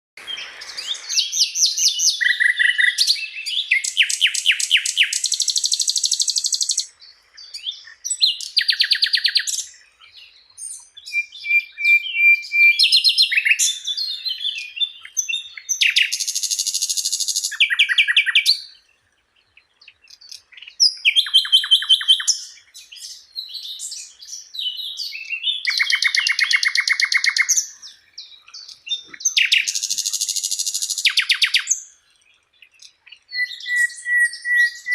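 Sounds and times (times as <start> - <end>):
songbird singing trills and chirps: 0.2 - 34.9.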